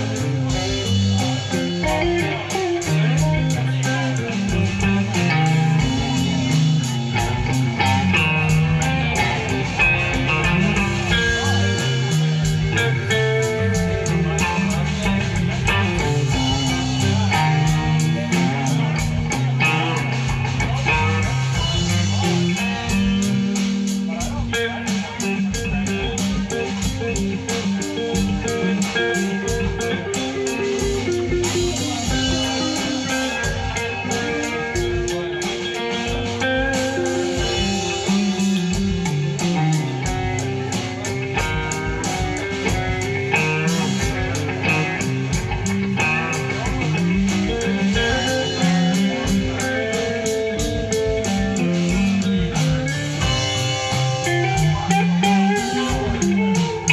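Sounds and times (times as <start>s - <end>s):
bass guitar: 0.0s - 56.9s
drums keeping a steady beat: 0.0s - 56.9s
electric guitar lines: 0.0s - 56.9s.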